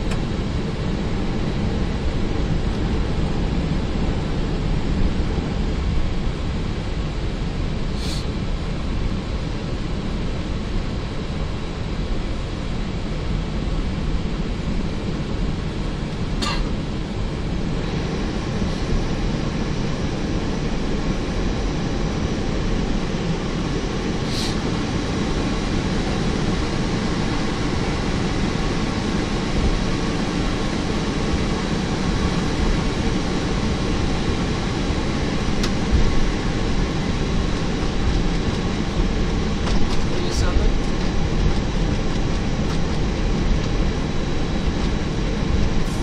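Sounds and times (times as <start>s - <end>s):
aircraft cockpit rumble: 0.0s - 46.0s.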